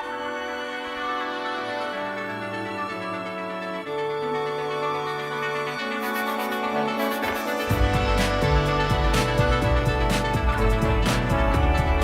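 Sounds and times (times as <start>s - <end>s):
sustained instrumental notes: 0.0s - 12.0s.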